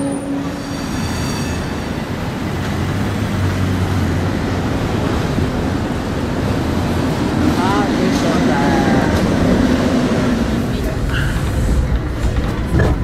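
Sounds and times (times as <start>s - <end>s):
tram high whine: 0.0s - 13.0s
tram low hum: 0.0s - 13.0s.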